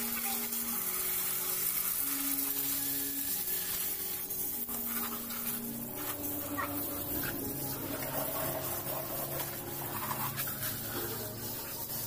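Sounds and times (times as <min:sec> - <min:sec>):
hose water spraying and splashing: 0:00.0 - 0:12.0
background music with long notes: 0:00.7 - 0:12.0.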